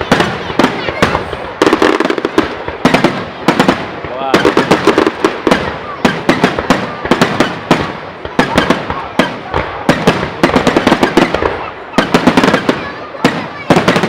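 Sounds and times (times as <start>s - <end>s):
fireworks cracking and banging: 0.0s - 14.0s.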